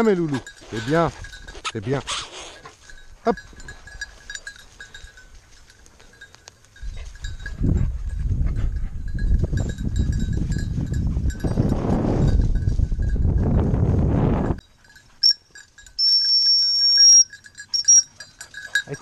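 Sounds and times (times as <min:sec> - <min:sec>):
collar bell tinkling: 0:00.0 - 0:13.7, 0:14.4 - 0:19.0.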